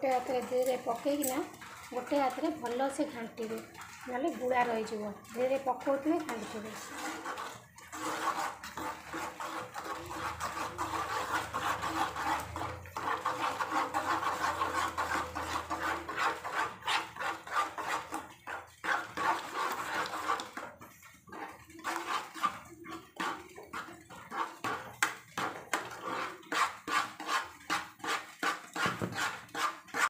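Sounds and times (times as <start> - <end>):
spatula scraping in steel pot: 0.0 - 30.0.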